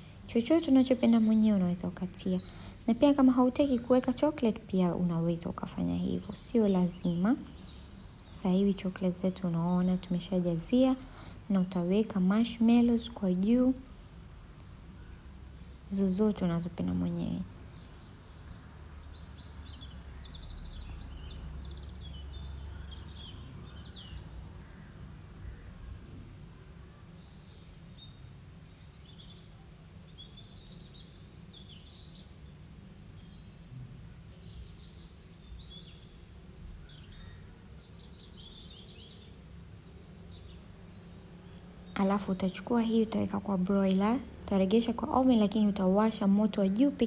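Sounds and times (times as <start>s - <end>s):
birds chirping: 0.0s - 47.0s
low steady hum: 0.0s - 47.0s.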